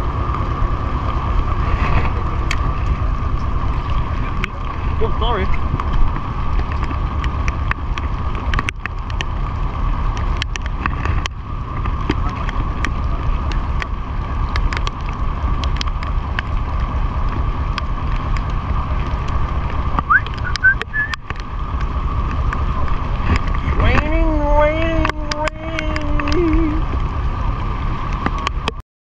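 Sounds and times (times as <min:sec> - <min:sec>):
boat engine rumbling: 0:00.0 - 0:28.8
wind on microphone: 0:00.0 - 0:28.8.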